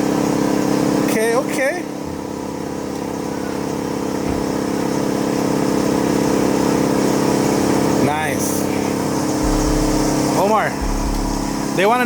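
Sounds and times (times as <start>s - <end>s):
motor running steadily: 0.0s - 12.0s.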